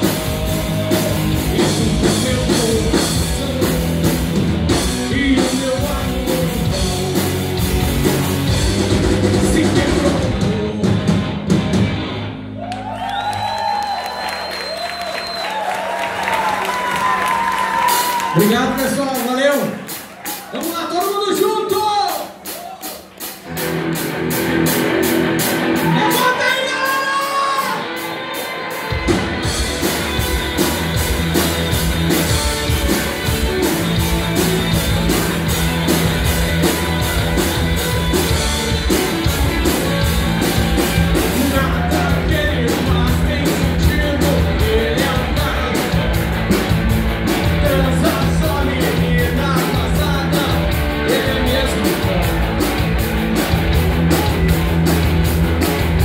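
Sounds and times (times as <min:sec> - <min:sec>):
electric guitars: 0:00.0 - 0:14.0, 0:23.1 - 0:56.0
bass and drum kit: 0:00.0 - 0:56.0.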